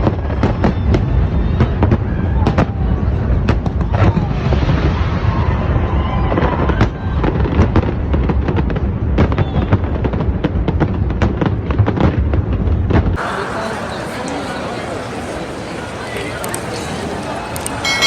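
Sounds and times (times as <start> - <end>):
fireworks bangs and crackles: 0.0 - 15.6.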